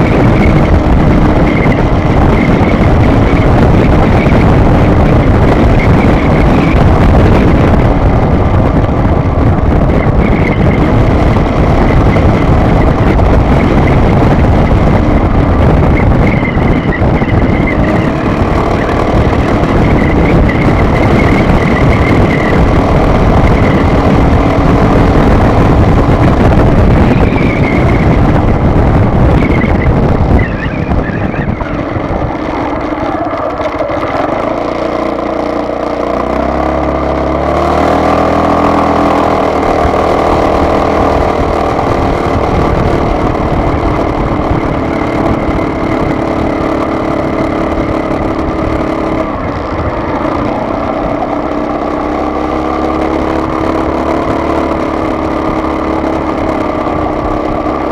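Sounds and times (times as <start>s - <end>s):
car engine hum: 0.0s - 57.9s
road noise: 0.0s - 57.9s.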